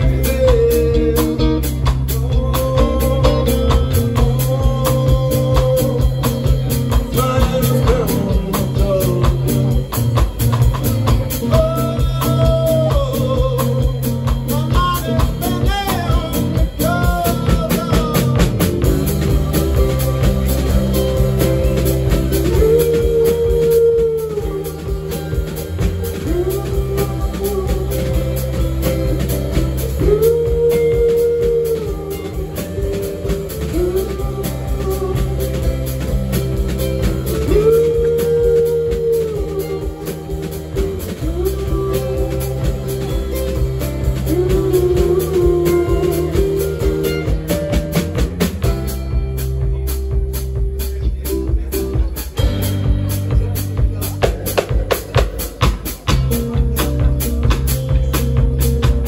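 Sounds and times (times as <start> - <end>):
lead vocal singing: 0.0 - 48.9
drum kit: 0.0 - 59.0
electric bass: 0.0 - 59.0
electric guitar: 0.0 - 59.0.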